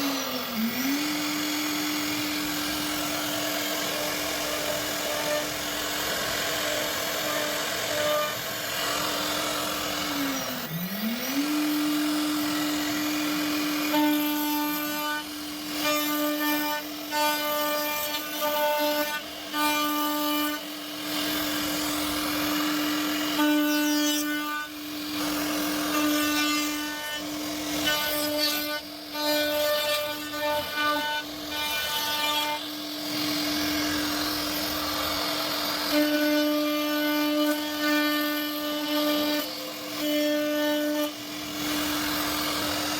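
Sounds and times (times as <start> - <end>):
cnc router spindle whine: 0.0 - 42.9
router bit cutting wood: 0.0 - 42.9.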